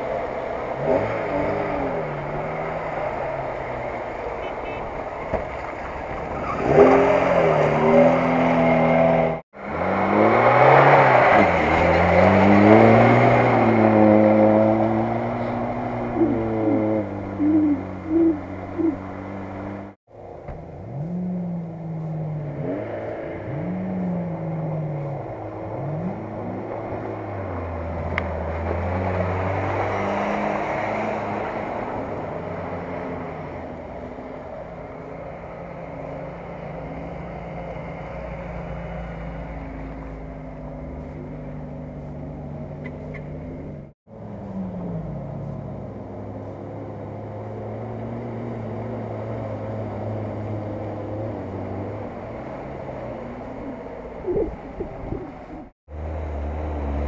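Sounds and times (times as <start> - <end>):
off-road engines revving: 0.0 - 57.0.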